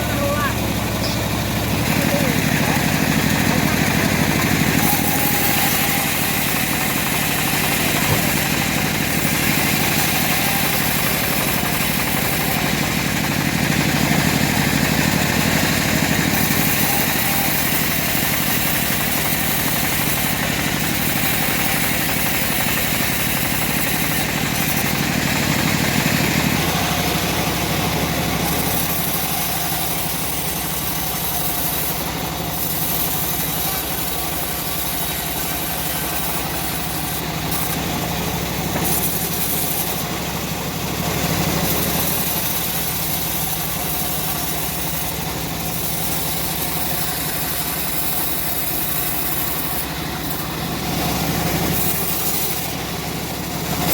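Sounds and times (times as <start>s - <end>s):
bandsaw mill engine running: 0.0s - 53.9s.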